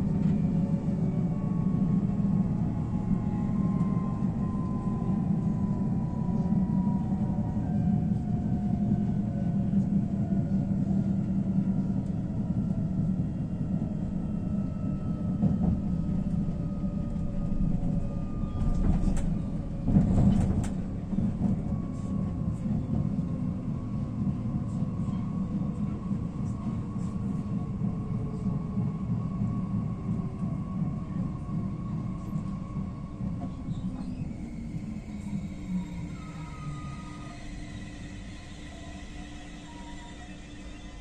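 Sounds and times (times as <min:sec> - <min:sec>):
faint whining tones: 0:00.0 - 0:41.0
train wheels rumbling on rails: 0:00.0 - 0:41.0.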